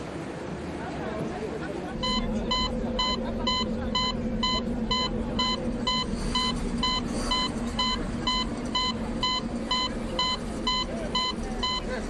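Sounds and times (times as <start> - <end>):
steady low hum: 1.6 - 12.0
short electronic beeps: 2.0 - 11.9.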